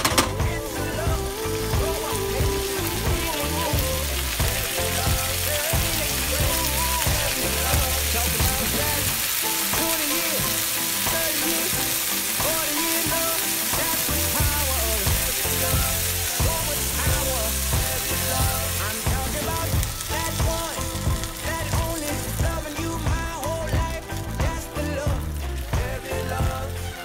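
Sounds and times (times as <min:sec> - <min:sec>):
background music: 0:00.0 - 0:27.0
vegetables sizzling in hot oil: 0:00.0 - 0:27.0.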